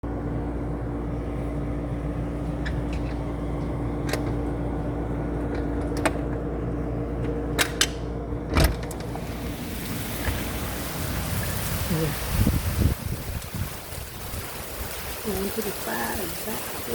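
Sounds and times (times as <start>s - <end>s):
low motor hum: 0.0s - 16.9s.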